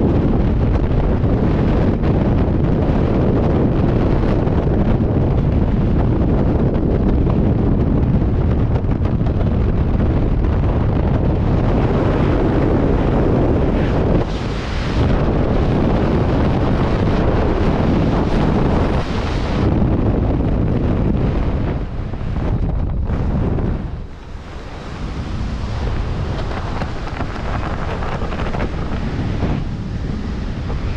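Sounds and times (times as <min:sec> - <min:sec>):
freefall airflow buffeting microphone: 0:00.0 - 0:30.9.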